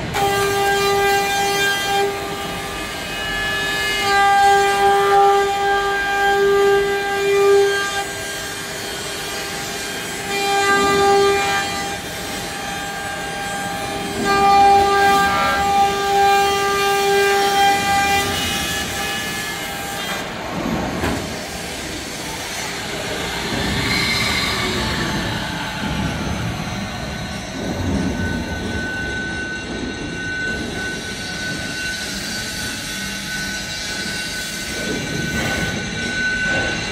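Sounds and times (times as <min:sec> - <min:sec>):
cutting machine spindle whine: 0:00.0 - 0:36.9.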